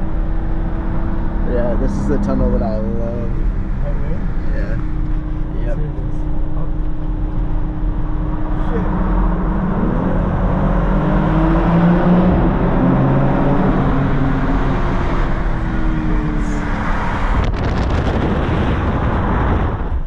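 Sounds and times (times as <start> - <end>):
car engine accelerating: 0.0 - 20.0
wind and road rush: 0.0 - 20.0.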